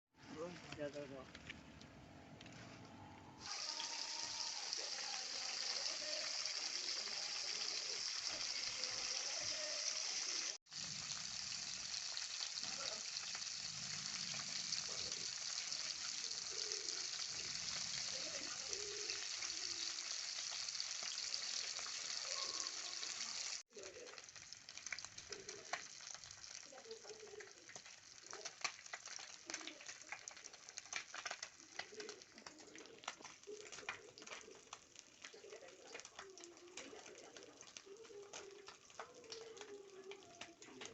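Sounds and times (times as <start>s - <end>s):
fish sizzling in hot oil: 3.4s - 40.9s.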